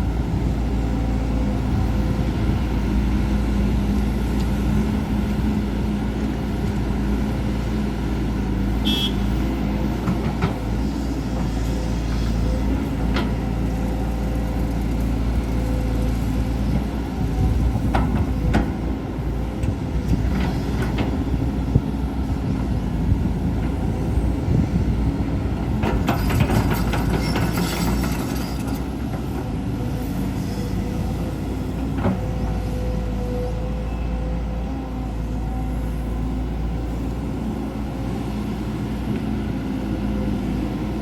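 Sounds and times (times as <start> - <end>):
excavator diesel engine rumbling: 0.0 - 41.0.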